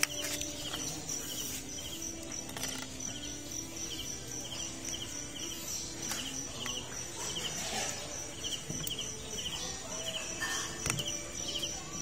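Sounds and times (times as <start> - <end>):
cricket chirping in trilled bursts: 0.0 - 12.0
high-pitched insect drone: 0.0 - 12.0.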